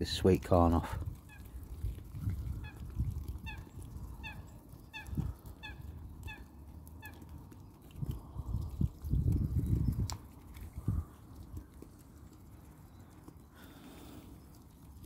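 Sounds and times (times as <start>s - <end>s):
swans pecking with soft thuds: 0.2s - 15.0s.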